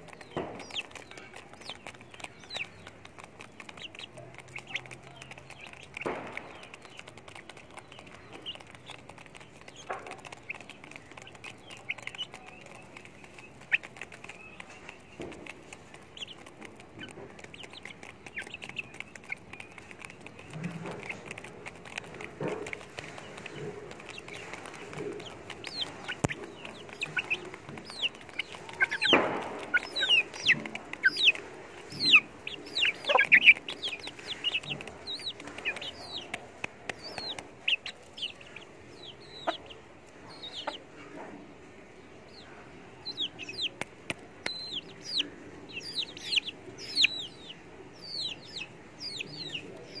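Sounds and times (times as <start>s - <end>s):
chickens clucking: 0.0s - 50.0s
chickens peeping and chirping: 0.0s - 50.0s.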